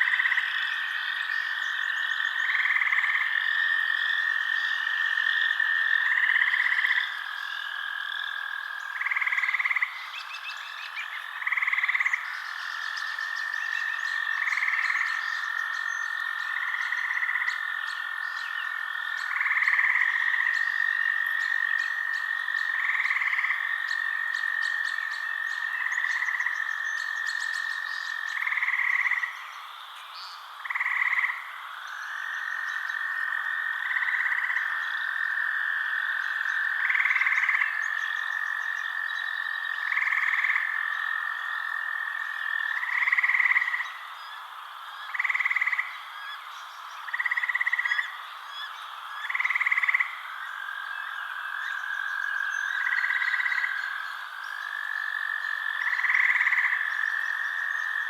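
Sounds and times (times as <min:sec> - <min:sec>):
frogs trilling: 0:00.0 - 0:58.0.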